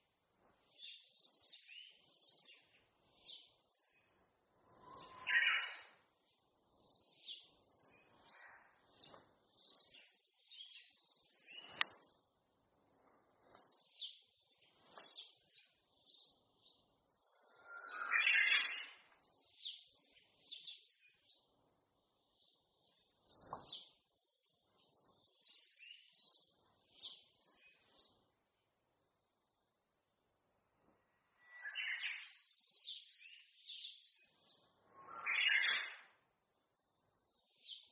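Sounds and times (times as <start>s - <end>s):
songbirds singing and chirping: 0.0s - 37.9s.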